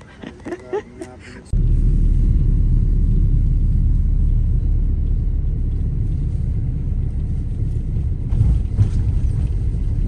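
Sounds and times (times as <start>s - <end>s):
vehicle rumble: 0.0s - 10.0s
wind and road noise: 0.0s - 10.0s.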